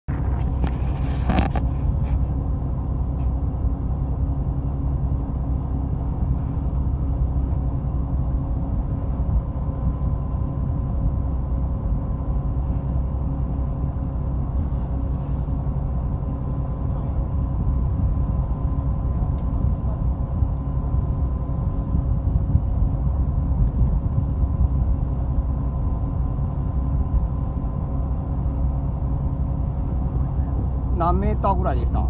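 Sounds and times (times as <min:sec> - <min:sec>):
boat engine running: 0:00.1 - 0:32.0.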